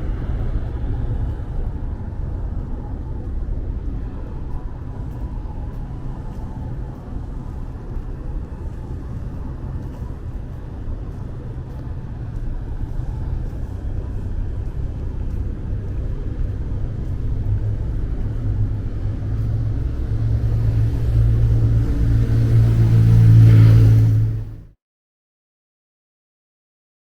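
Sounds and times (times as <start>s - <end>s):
vehicle engine humming: 0.0s - 24.7s.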